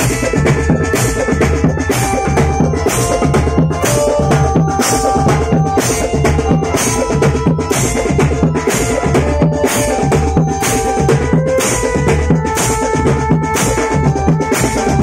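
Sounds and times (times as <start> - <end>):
held melodic notes: 0.0 - 15.0
marching drums beating: 0.0 - 15.0.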